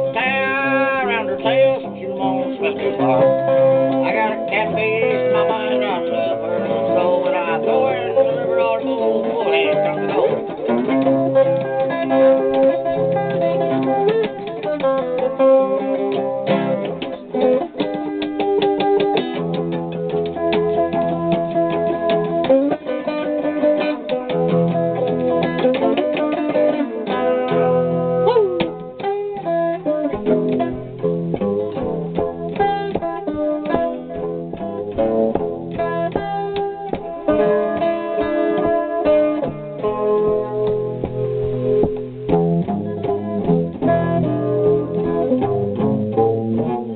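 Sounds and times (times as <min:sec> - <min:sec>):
blues guitar picking: 0:00.0 - 0:46.9.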